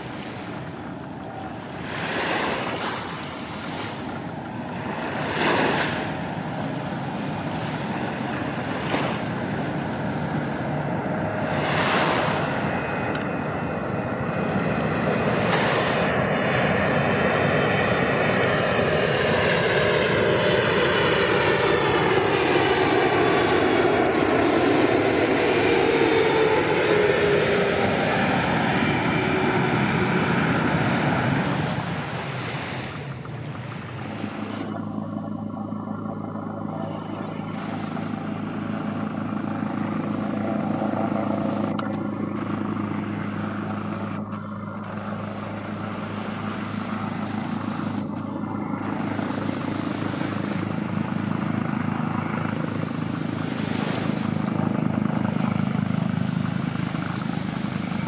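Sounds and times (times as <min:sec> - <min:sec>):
helicopter rotor beat: 0:00.0 - 0:58.0
jet engines whining: 0:00.0 - 0:58.0.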